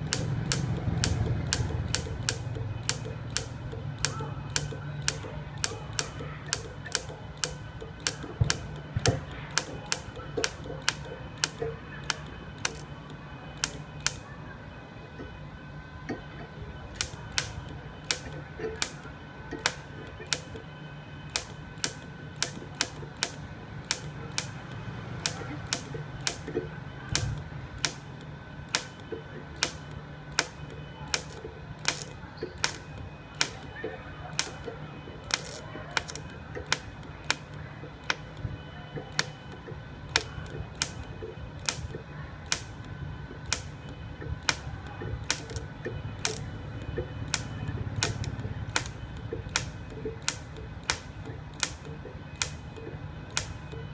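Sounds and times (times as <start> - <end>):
sharp welder clicks: 0.0 - 14.3, 16.9 - 20.7, 21.3 - 53.9
welder hum: 0.0 - 14.3, 16.9 - 20.7, 21.3 - 38.4, 39.1 - 53.7.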